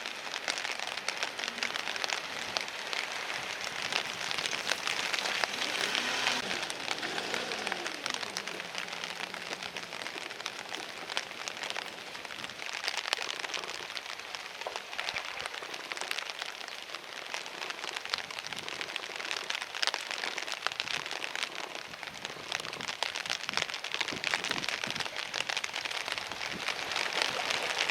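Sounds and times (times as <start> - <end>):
rain pattering: 0.0 - 27.9.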